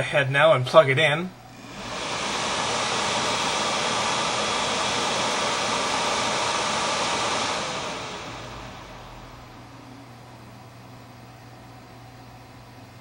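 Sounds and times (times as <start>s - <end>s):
cooler fan rushing air: 0.0s - 13.0s.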